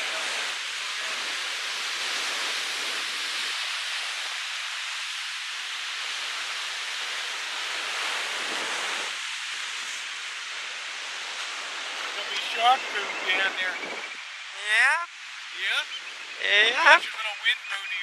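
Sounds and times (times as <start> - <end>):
surf and wind rushing hiss: 0.0 - 18.0.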